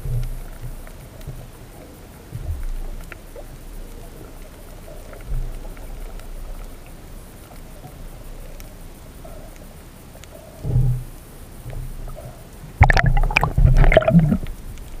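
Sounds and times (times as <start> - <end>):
faint clicks: 0.0 - 15.0
muffled underwater rumble: 0.0 - 15.0.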